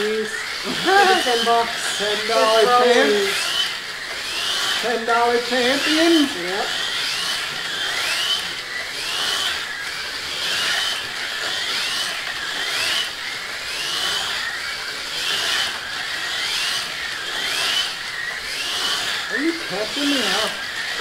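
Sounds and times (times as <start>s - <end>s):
slot car motors whining: 0.0s - 21.0s.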